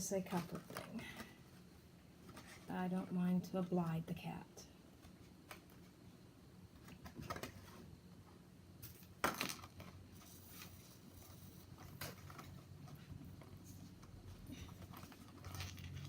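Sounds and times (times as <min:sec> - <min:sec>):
faint low room hum: 0:00.0 - 0:16.0.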